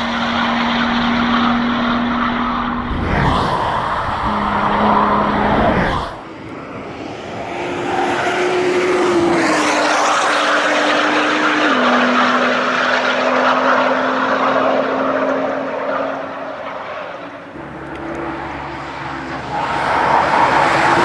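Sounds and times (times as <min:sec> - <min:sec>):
race car engine passing: 0:00.0 - 0:21.0.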